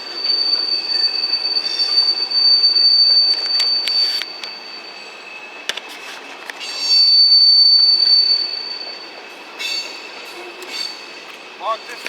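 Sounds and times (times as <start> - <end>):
steel wheel squeal: 0.0 - 12.0
train cars rolling: 0.0 - 12.0.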